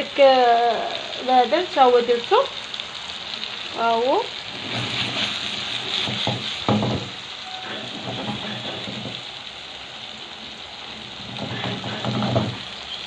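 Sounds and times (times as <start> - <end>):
sausages sizzling in a pan: 0.0 - 13.0.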